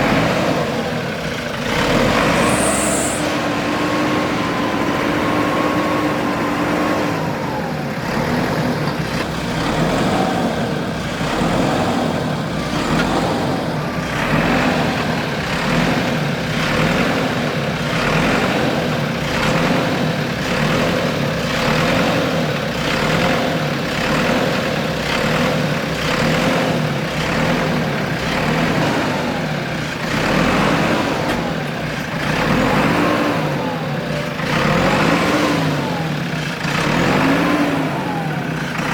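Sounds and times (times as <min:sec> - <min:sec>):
diesel engine droning and pulsing: 0:00.0 - 0:38.9.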